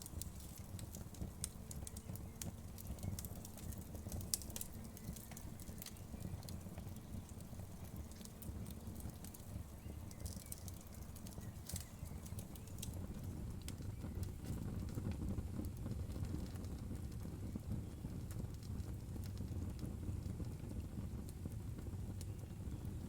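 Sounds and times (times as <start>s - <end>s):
flames rumbling: 0.0s - 23.0s
wood fire crackling: 0.0s - 23.0s.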